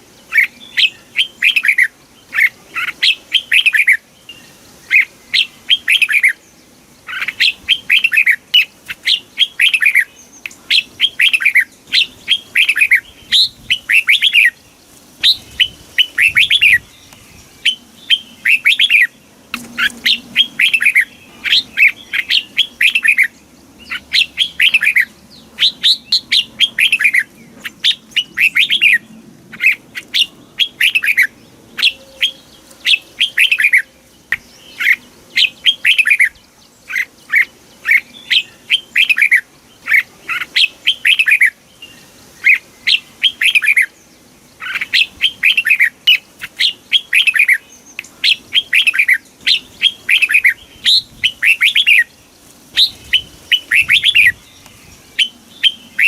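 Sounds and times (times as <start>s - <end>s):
bird whistling song: 0.3s - 6.4s, 7.1s - 14.6s, 15.2s - 44.0s, 44.6s - 52.2s, 52.8s - 56.0s.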